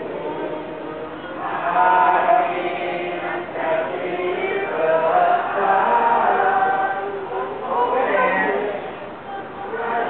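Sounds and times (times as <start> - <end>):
many voices singing together: 0.0 - 10.0.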